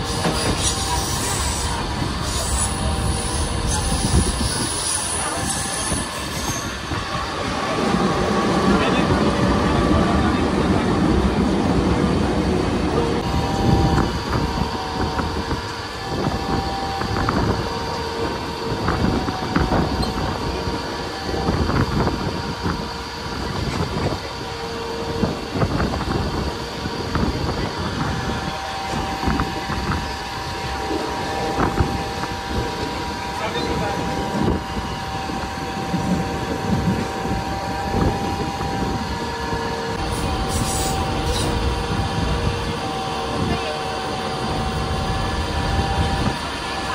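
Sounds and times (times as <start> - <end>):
train rumbling on rails: 0.0 - 46.9.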